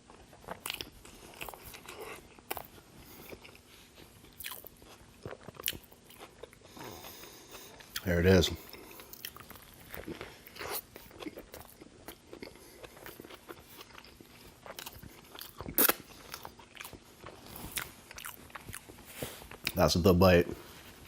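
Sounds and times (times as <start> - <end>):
close chewing crunches: 0.0 - 19.9.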